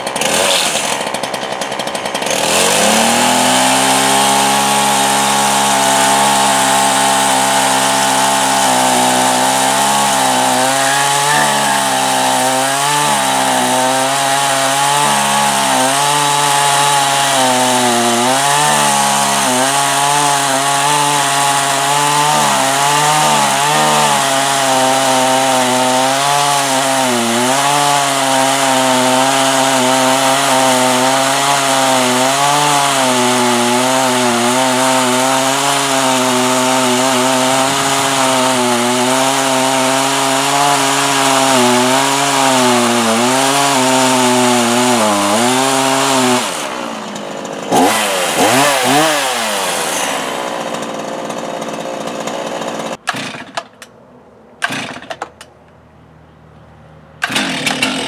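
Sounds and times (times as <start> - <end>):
chainsaw cutting wood: 0.0 - 54.0, 54.6 - 55.5, 57.2 - 58.0.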